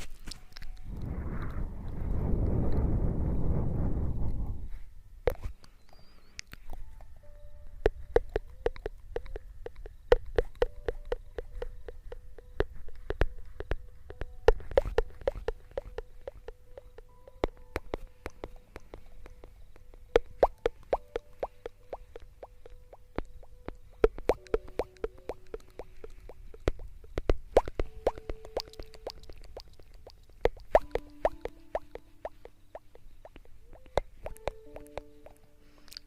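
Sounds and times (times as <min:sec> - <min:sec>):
faint steady hum: 0:00.0 - 0:36.0
soft wet clicks and plops: 0:05.3 - 0:36.0.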